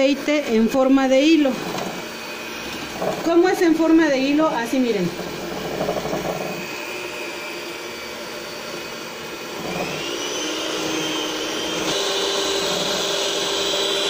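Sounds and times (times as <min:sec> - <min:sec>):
electric hand mixer whine: 0:00.0 - 0:14.0.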